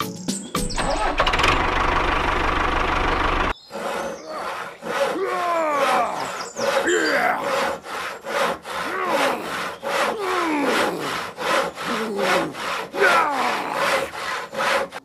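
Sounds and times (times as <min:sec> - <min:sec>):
saw cutting through wood: 0:01.2 - 0:15.0.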